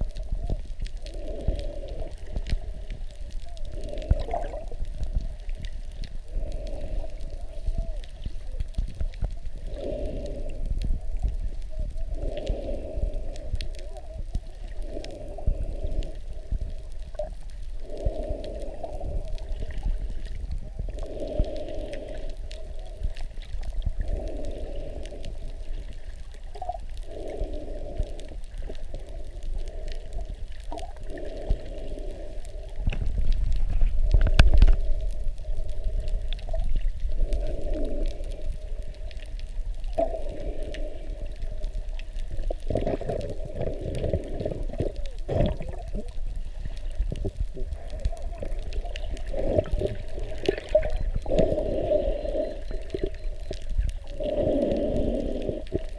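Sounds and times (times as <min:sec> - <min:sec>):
low underwater rumble: 0:00.0 - 0:55.9
underwater sloshing and gurgling: 0:00.0 - 0:55.9.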